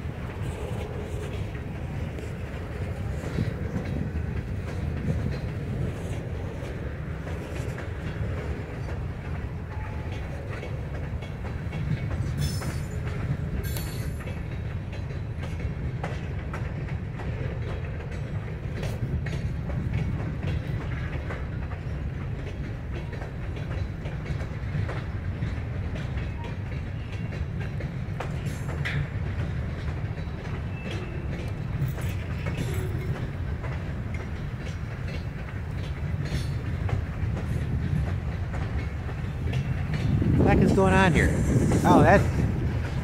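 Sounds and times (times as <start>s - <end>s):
freight train rumbling past: 0.0s - 43.0s
wheels clicking over rail joints: 0.0s - 43.0s.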